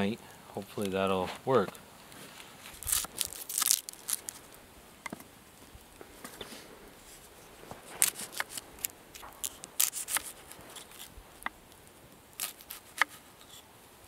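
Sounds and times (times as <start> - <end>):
campfire crackling and popping: 0.1 - 14.0.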